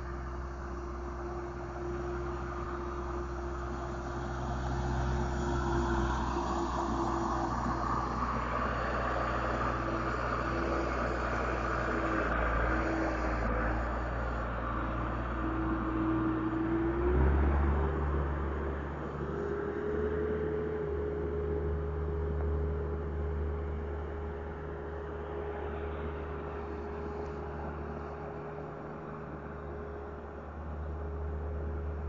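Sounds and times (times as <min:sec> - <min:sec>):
paving machinery engine hum: 0:00.0 - 0:32.0.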